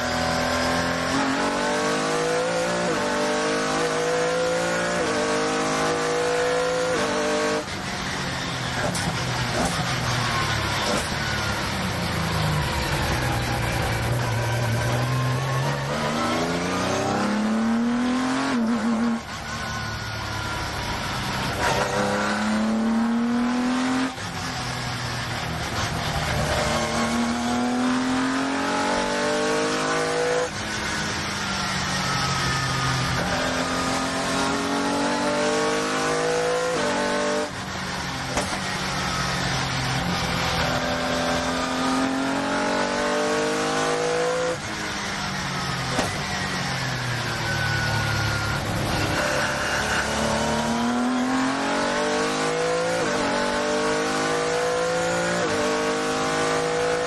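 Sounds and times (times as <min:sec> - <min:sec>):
race car engine accelerating: 0:00.0 - 0:07.9, 0:08.7 - 0:57.0.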